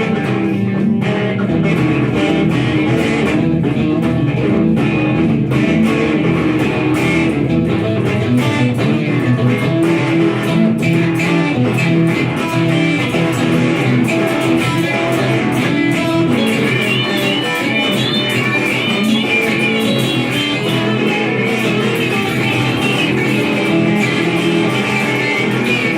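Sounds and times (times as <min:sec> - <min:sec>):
blues rock guitars: 0:00.0 - 0:25.9.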